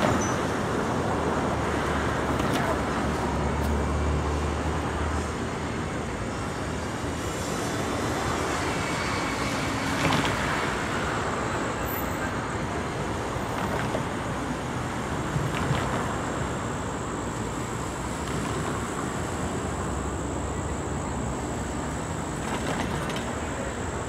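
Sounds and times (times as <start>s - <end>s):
cars passing: 0.0s - 24.0s
low traffic rumble: 0.0s - 24.0s.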